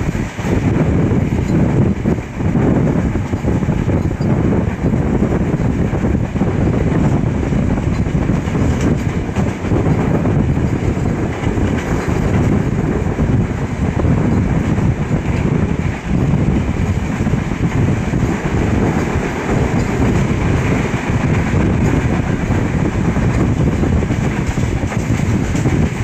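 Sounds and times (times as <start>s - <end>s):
low train rumble: 0.0s - 26.0s
train wheels rolling on rails: 0.0s - 26.0s.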